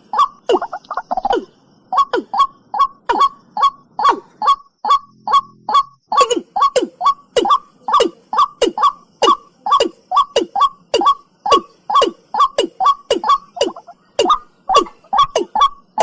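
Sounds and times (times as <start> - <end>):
bird calling in short calls: 0.0 - 16.0.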